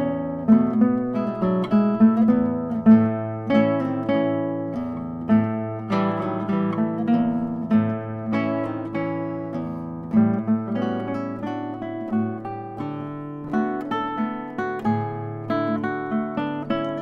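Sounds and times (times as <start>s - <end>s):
classical guitar duet: 0.0s - 17.0s.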